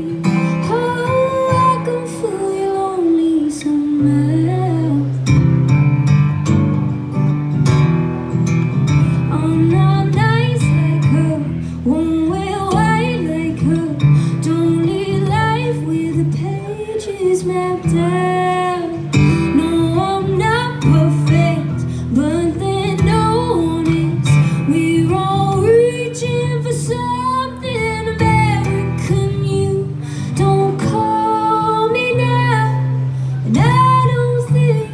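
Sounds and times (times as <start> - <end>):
woman singing: 0.0 - 5.4, 9.1 - 34.9
strummed acoustic guitar: 0.0 - 34.9.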